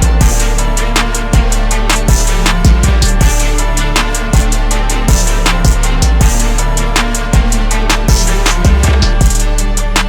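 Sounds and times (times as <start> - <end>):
backing music with drum beat: 0.0 - 10.0.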